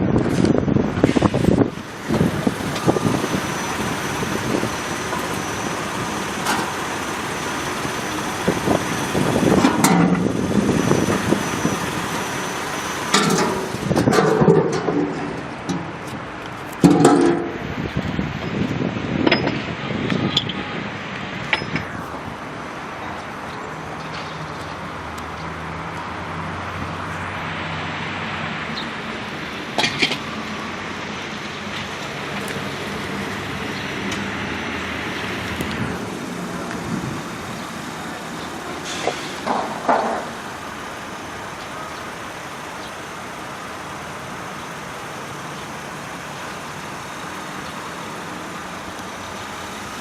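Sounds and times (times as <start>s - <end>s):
road noise: 0.0s - 50.0s
vehicle engine hum: 0.0s - 50.0s.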